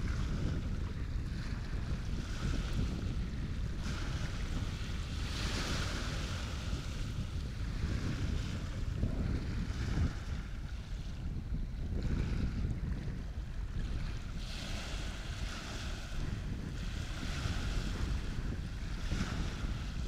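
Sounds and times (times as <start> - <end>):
waves washing: 0.0 - 20.0
wind buffeting microphone: 0.0 - 20.0.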